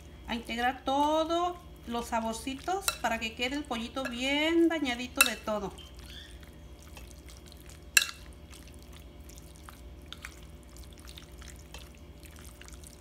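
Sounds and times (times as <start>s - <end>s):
spoon stirring wet marinade: 0.4s - 13.0s.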